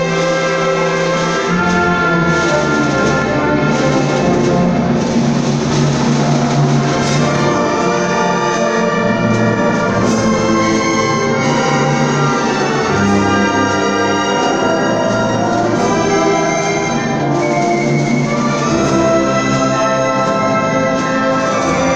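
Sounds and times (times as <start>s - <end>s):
orchestra with loud brass: 0.0s - 21.9s.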